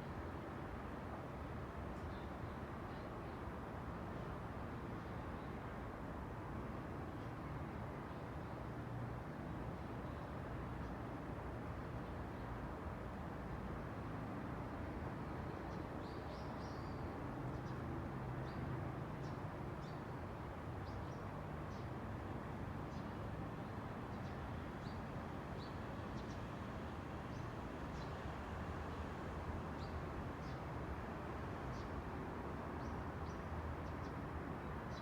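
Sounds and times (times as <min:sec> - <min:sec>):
wind: 0:00.0 - 0:35.0.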